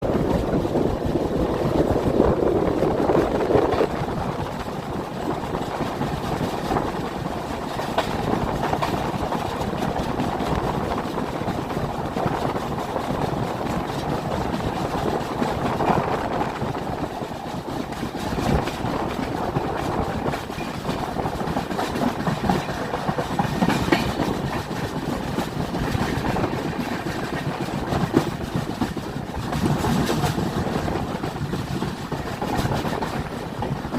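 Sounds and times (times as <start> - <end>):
train rumbling on rails: 0.0 - 33.9
wheels clacking over track: 0.1 - 33.9.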